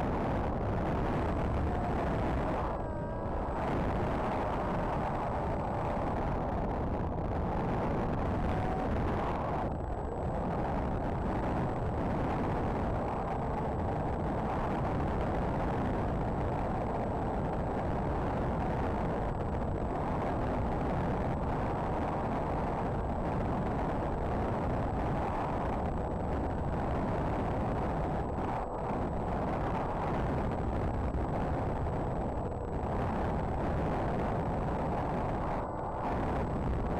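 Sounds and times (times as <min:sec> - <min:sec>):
wind roaring over microphone: 0:00.0 - 0:36.9.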